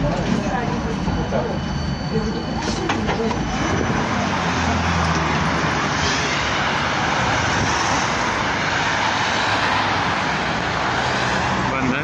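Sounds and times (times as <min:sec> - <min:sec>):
street traffic: 0:00.0 - 0:12.0
tram rushing: 0:00.0 - 0:12.0.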